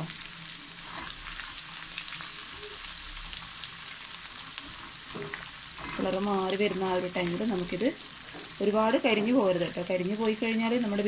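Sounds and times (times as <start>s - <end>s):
onion deep-frying in oil: 0.0s - 11.0s.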